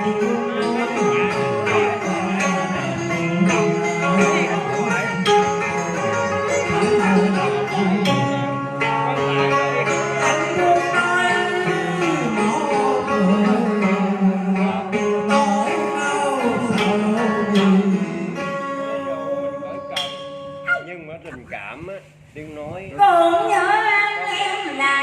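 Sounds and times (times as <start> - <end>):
plucked string melody: 0.0 - 21.5
instrumental accompaniment: 0.0 - 23.7.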